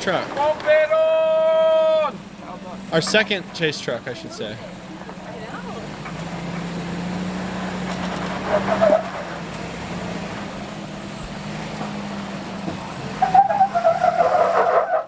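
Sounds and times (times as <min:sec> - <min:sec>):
truck engine droning: 0:00.0 - 0:15.0
tyres rumbling over trail: 0:00.0 - 0:15.0.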